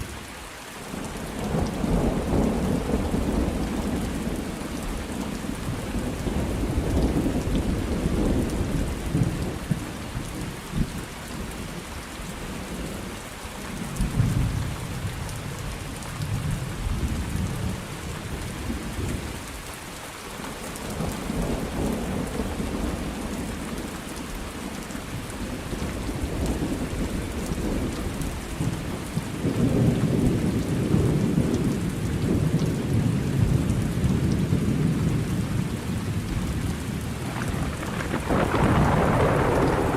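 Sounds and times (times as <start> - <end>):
steady rain falling: 0.0 - 39.9
low rumbles of thunder: 0.8 - 11.9, 13.8 - 19.4, 20.8 - 39.9.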